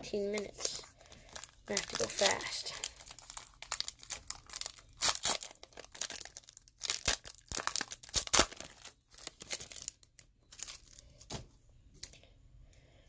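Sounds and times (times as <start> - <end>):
foil wrapper tearing and crinkling: 0.2 - 11.0
cards rustling: 0.2 - 11.4.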